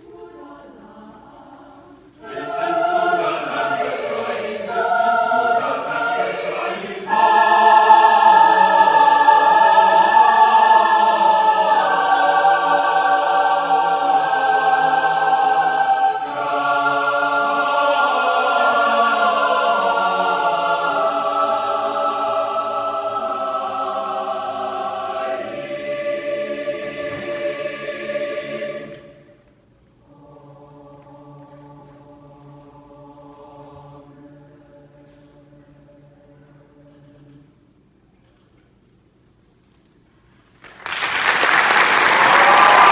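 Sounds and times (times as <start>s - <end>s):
choir singing held chords: 0.0s - 37.4s, 40.9s - 42.9s.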